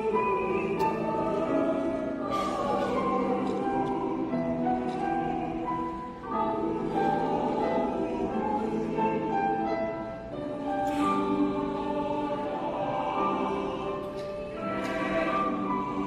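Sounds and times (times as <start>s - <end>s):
choir singing in harmony: 0.0s - 16.0s.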